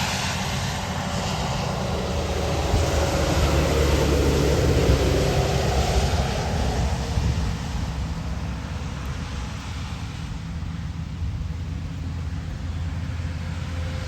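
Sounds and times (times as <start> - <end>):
truck engine drone: 0.0 - 14.0
tyre hiss on wet road: 0.0 - 14.0.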